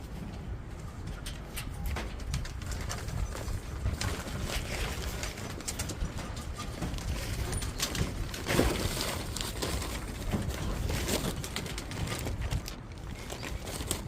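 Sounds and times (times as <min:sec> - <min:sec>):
wind buffeting microphone: 0:00.0 - 0:14.0
cats chewing dry kibble: 0:02.4 - 0:14.0.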